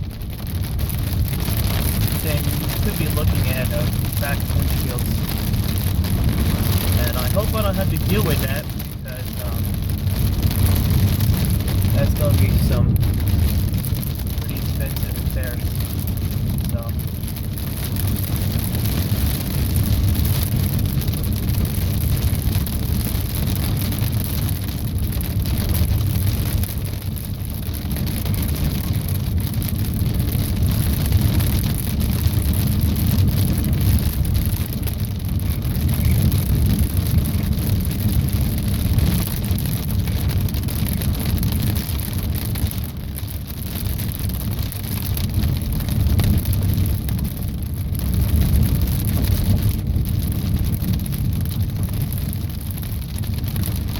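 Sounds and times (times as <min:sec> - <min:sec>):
low vehicle rumble: 0:00.0 - 0:53.9
rain and hail hitting car roof: 0:00.0 - 0:53.9.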